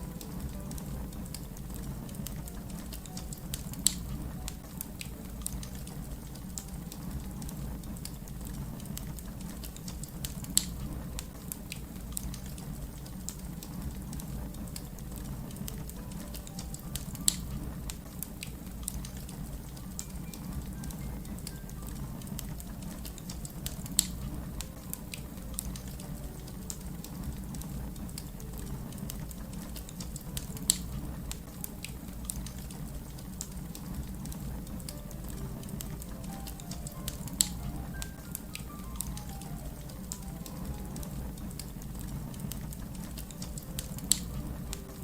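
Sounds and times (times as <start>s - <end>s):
fire popping: 0.0s - 45.0s
wood fire crackling: 0.0s - 45.0s.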